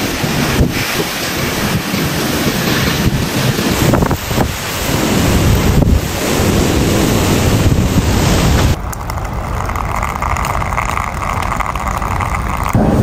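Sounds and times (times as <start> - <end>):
driving rain: 0.0 - 13.0
strong wind on microphone: 0.0 - 13.0.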